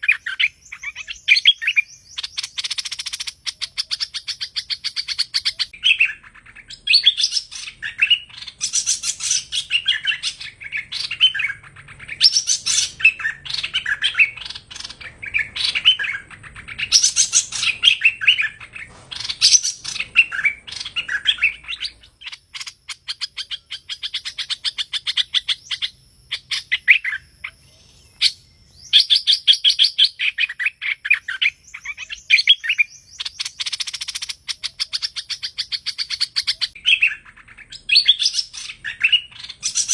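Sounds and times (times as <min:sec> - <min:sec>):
bird song with chirps and clicks: 0:00.0 - 0:39.9.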